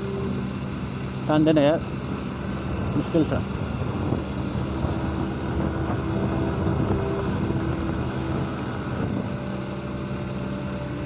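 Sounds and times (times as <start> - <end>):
motorcycle engine straining uphill: 0.0 - 11.0.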